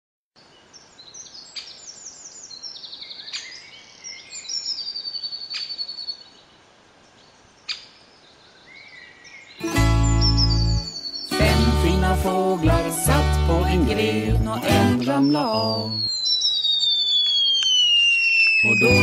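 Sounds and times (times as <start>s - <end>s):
birds chirping and trilling: 0.4s - 13.6s, 14.9s - 19.0s.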